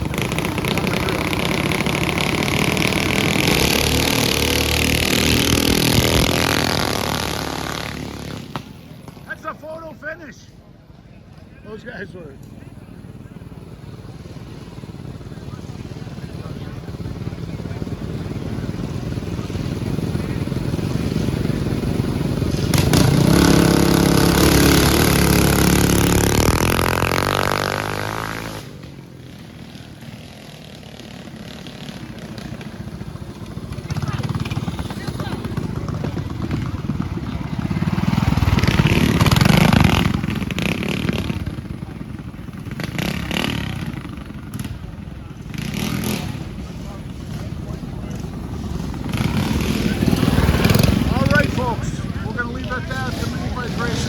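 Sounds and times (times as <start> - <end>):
mini bike engines racing past: 0.0 - 10.5, 11.7 - 54.0.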